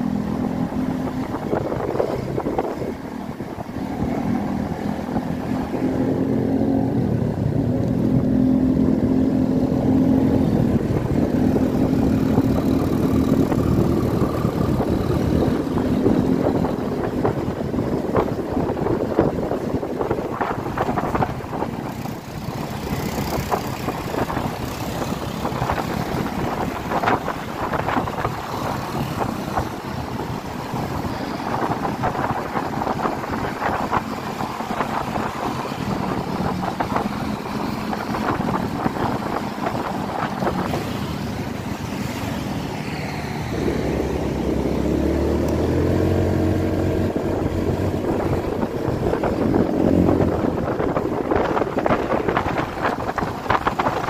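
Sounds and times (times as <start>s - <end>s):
engine hum rising in pitch: 0.0s - 54.0s
scooter engine: 0.0s - 54.0s
wind buffeting microphone: 0.0s - 54.0s.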